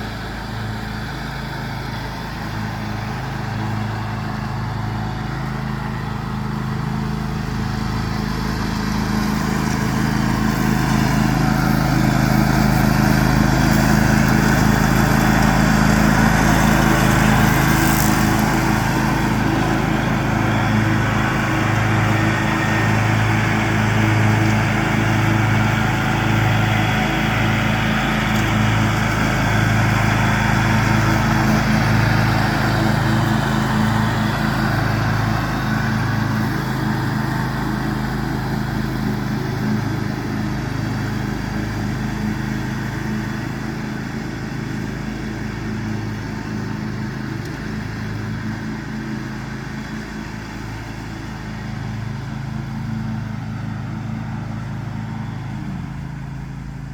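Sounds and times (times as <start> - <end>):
lawn tractor engine running: 0.0 - 56.9
mower cutting deck whirring: 0.0 - 56.9.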